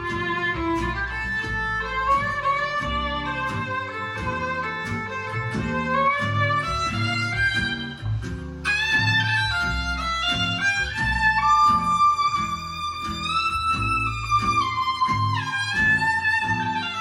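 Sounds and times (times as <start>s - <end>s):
plucked bass line: 0.0s - 17.0s
violin melody: 0.0s - 17.0s.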